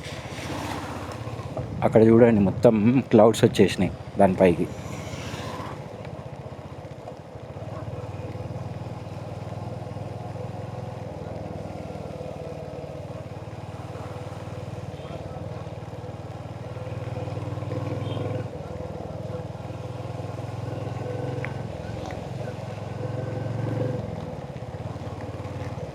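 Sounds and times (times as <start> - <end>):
motorcycle engine cruising: 0.0 - 25.9.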